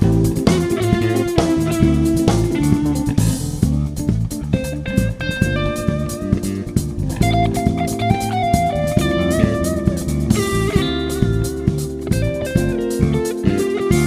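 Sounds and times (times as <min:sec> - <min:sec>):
bass guitar: 0:00.0 - 0:14.0
drum kit steady beat: 0:00.0 - 0:14.0
lead guitar melody with bent notes: 0:00.0 - 0:14.0.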